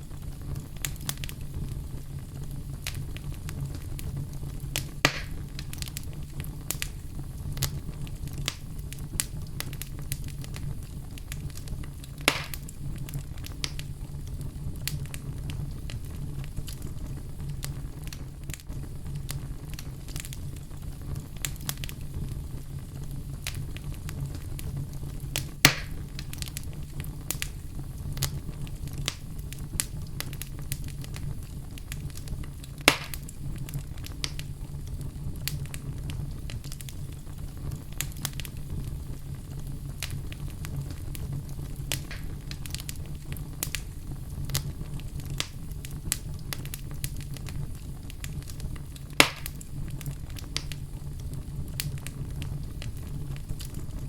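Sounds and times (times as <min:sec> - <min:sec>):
fire crackling: 0:00.0 - 0:54.0
loud wood fire pops: 0:00.0 - 0:54.0
low rumble of flames: 0:00.0 - 0:54.0.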